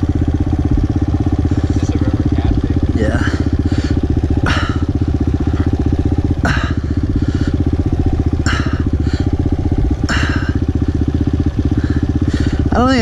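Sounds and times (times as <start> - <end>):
motorbike engine idling: 0.0 - 13.0.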